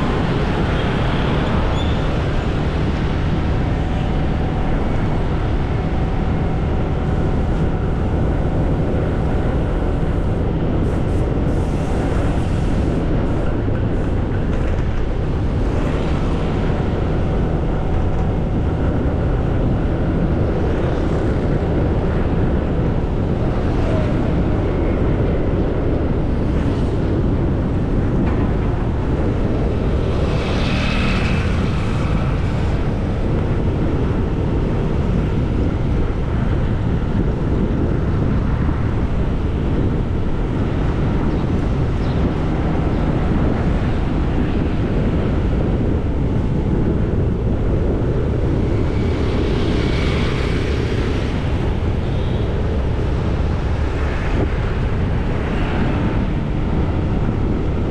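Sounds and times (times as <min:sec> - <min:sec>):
road traffic: 0:00.0 - 0:57.9
wind on microphone: 0:00.0 - 0:57.9.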